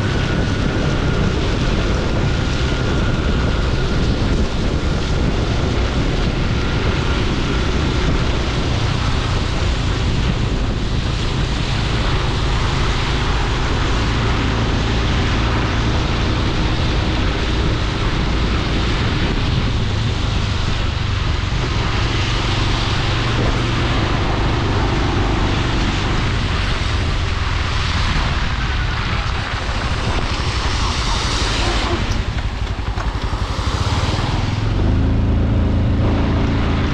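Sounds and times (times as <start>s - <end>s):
motorcycle engine running: 0.0s - 36.9s
road noise: 0.0s - 36.9s
wind rushing past microphone: 0.0s - 36.9s.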